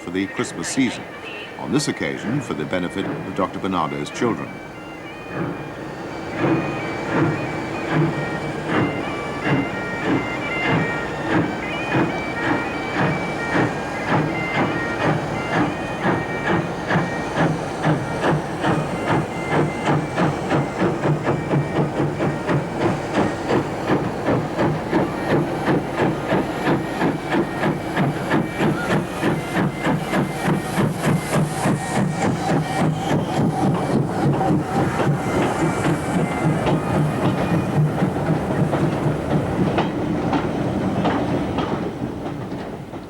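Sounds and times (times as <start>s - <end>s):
steam locomotive exhaust beats: 0.0s - 43.0s.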